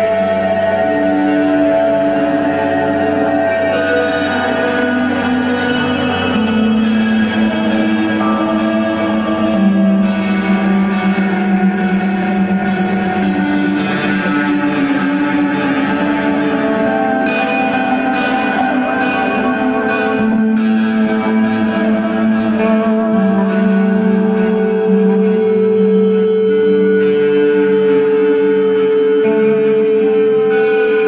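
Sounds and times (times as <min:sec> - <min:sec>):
electric guitar chords with reverb: 0:00.0 - 0:31.0.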